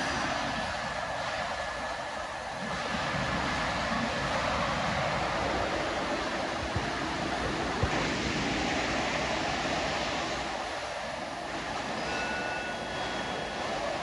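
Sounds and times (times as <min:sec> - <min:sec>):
faint high whine: 0:00.0 - 0:14.0
train rushing noise: 0:00.0 - 0:14.0.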